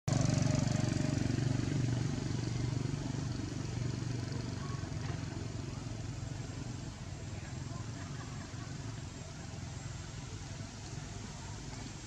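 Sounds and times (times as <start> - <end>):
vehicle engine idling: 0.1 - 12.0.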